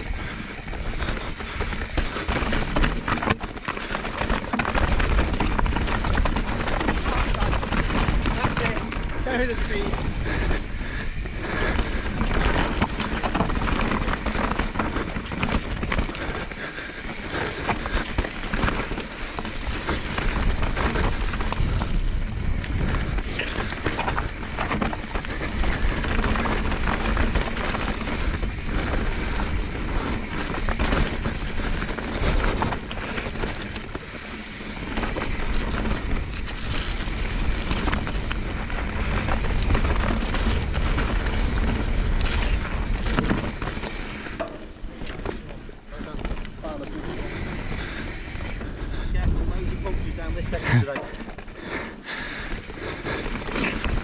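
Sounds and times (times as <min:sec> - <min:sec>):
bike clattering over rocks: 0:00.0 - 0:48.6, 0:49.8 - 0:51.6, 0:52.5 - 0:54.0
bike tyres crunching on gravel: 0:00.0 - 0:54.0.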